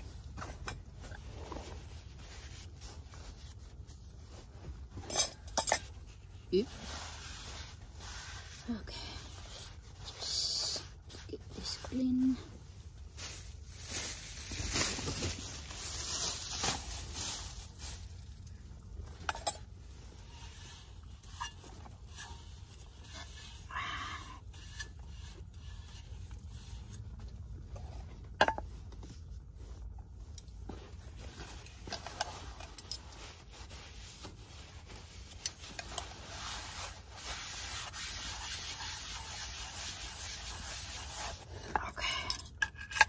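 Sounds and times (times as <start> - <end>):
scrubbing and scraping by hand: 0.0 - 12.5, 13.2 - 43.0.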